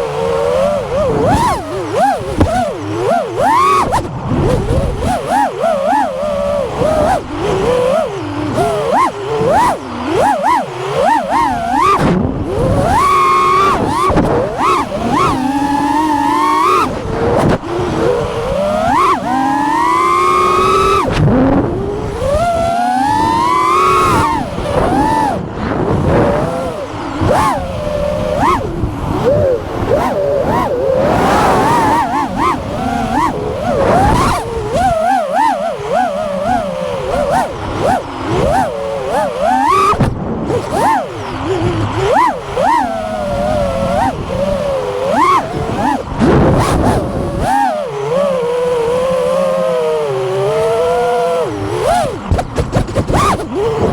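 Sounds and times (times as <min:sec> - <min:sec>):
quadcopter motors whining: 0:00.0 - 0:53.9.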